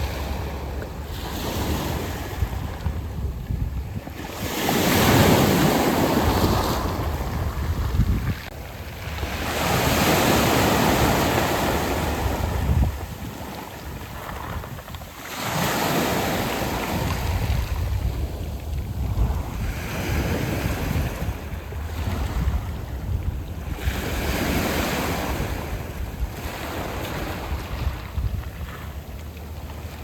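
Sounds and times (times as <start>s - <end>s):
waves washing over pebbles: 0.0s - 30.0s.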